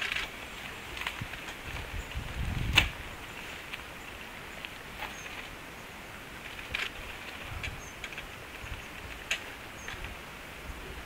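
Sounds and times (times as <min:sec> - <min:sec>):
outdoor air hiss: 0:00.0 - 0:11.0.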